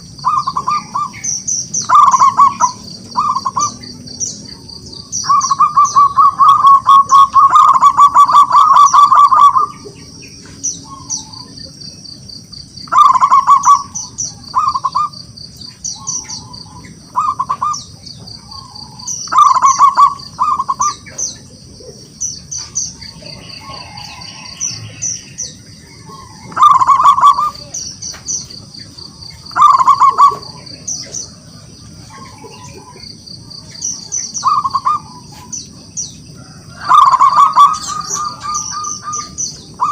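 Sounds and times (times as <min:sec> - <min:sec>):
dove cooing: 0:00.0 - 0:11.8, 0:12.8 - 0:39.9
high-pitched chirping: 0:00.0 - 0:39.9.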